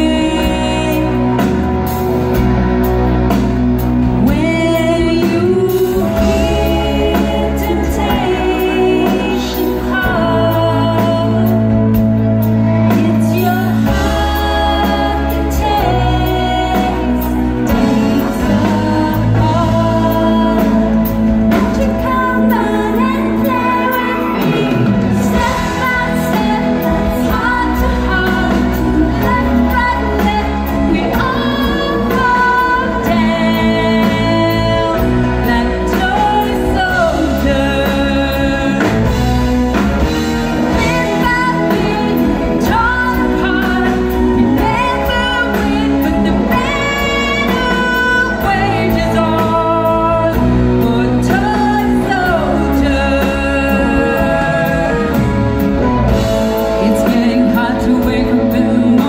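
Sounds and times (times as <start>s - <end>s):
amplified band music: 0.0s - 59.0s
woman singing into a microphone: 0.0s - 59.0s.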